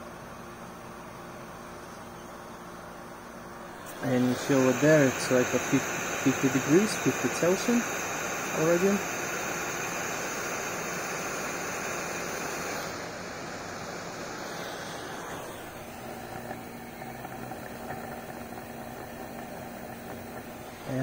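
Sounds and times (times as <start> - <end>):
electric pump whirring: 3.4 - 21.0
high whine: 3.5 - 21.0
heat gun blowing: 3.7 - 21.0.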